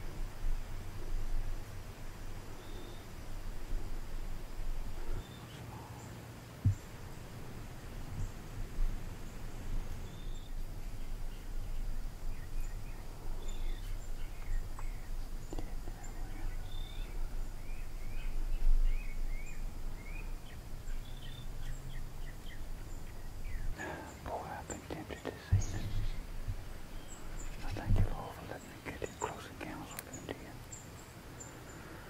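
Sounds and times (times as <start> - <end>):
steady low rumble: 0.0 - 30.6
small birds chirping: 2.4 - 32.0.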